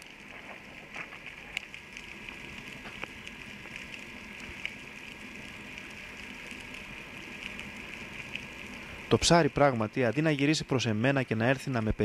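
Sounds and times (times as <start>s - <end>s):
sharp crackling clicks: 0.0s - 10.5s
steady underwater hiss: 0.0s - 12.0s.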